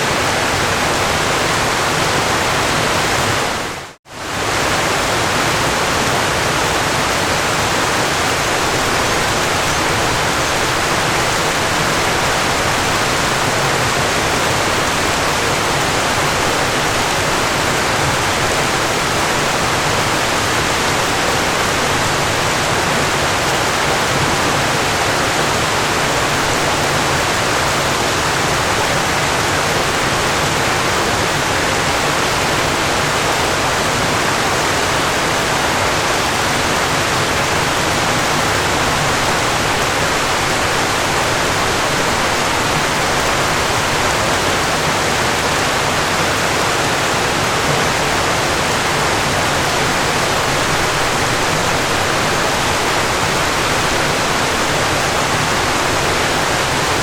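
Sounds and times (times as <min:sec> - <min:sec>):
falling water rushing: 0:00.0 - 0:57.0.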